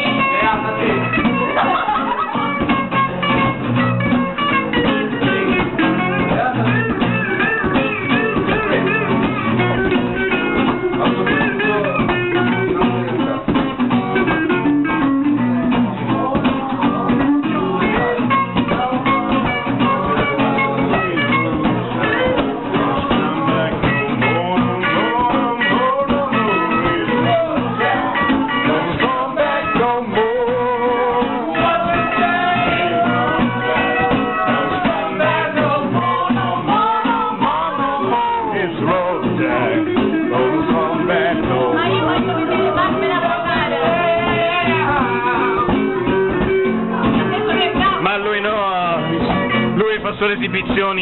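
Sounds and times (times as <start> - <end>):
acoustic guitar strumming: 0.0 - 51.0
voices: 0.0 - 51.0.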